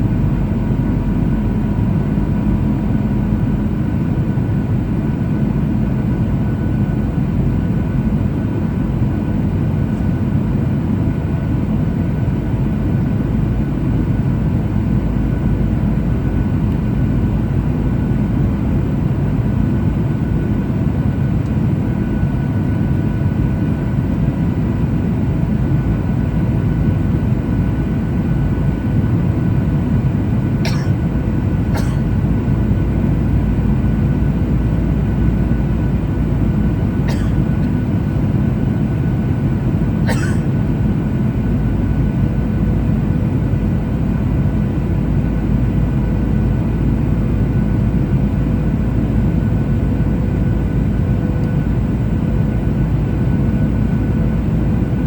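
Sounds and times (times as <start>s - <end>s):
aircraft cabin engine roar: 0.0s - 55.0s.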